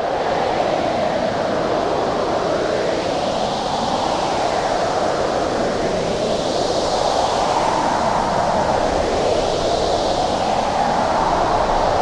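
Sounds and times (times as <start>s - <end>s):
howling storm wind: 0.0s - 12.0s.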